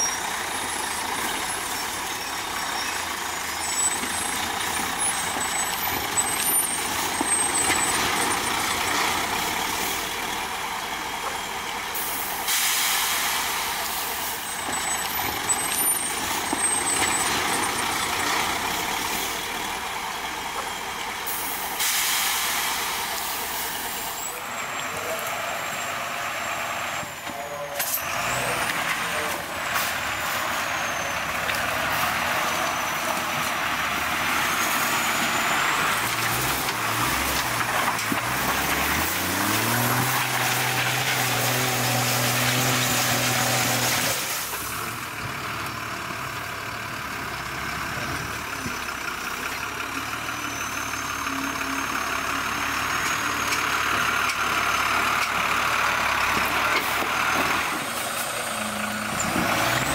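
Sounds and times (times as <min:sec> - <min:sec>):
truck engine working hard: 0:00.0 - 0:59.9.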